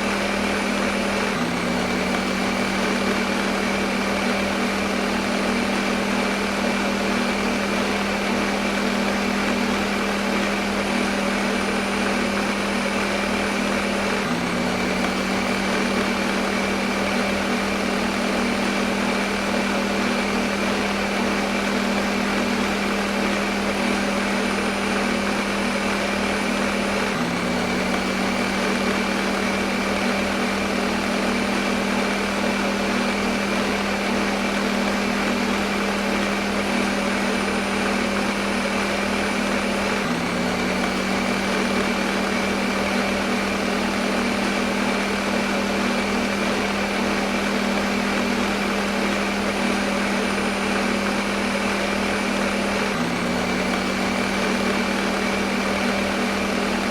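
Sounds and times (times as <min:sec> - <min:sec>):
blender running: 0:00.0 - 0:56.9.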